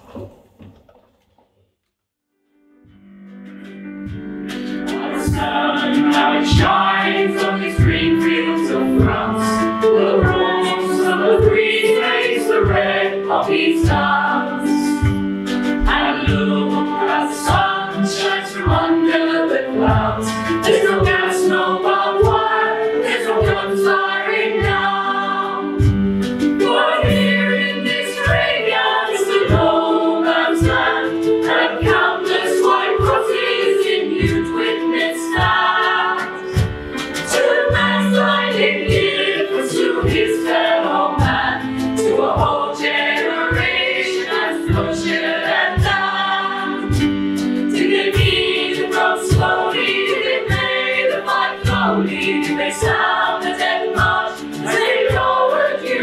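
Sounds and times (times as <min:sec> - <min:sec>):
regular beat: 0:03.1 - 0:56.0
choir singing: 0:04.1 - 0:56.0
violin: 0:04.1 - 0:56.0.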